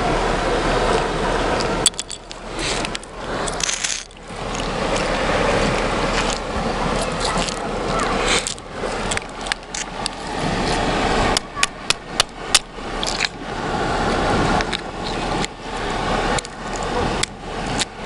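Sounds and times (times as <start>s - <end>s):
sea water washing on shore: 0.0s - 18.0s.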